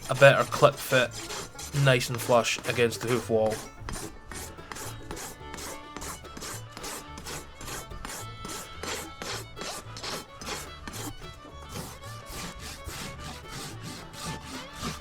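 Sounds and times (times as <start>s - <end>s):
rasp scraping hoof: 0.0s - 15.0s.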